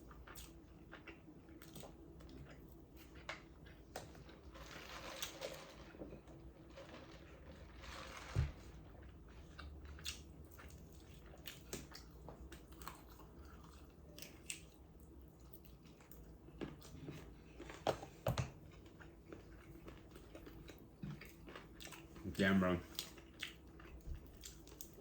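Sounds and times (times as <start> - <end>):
person chewing crunchy food: 0.0 - 5.3, 7.6 - 25.0.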